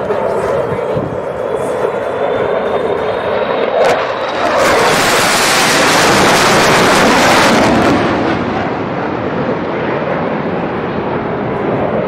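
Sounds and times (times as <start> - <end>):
fighter jet roar: 0.0 - 12.0.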